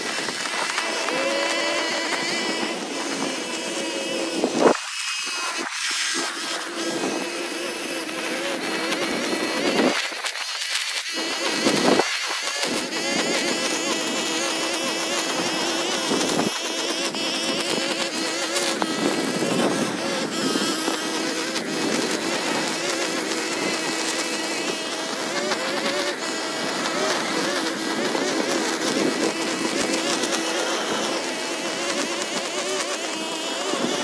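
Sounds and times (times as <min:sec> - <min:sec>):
small gas engine running: 0:00.0 - 0:34.0.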